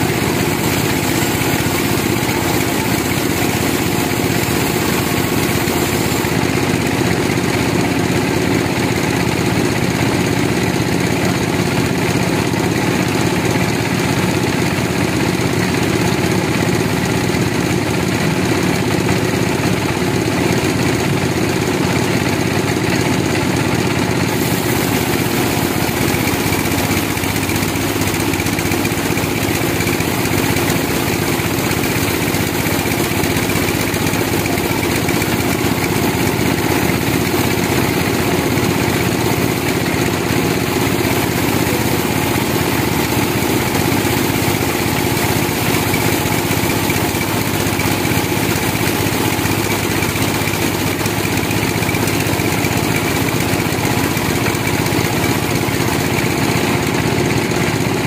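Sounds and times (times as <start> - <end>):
band sawmill cutting log: 0.0 - 12.1, 12.8 - 58.0.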